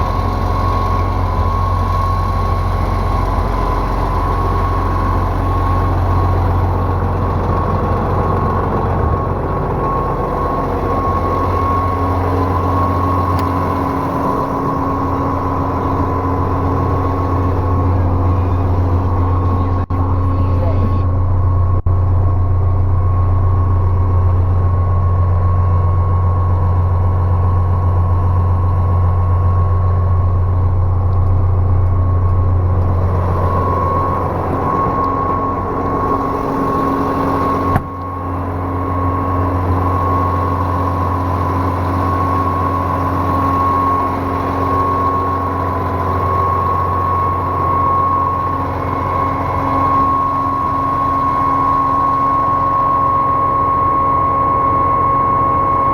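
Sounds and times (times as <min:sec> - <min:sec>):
pump truck engine running: 0:00.0 - 0:55.9
steady high whine: 0:00.0 - 0:55.9.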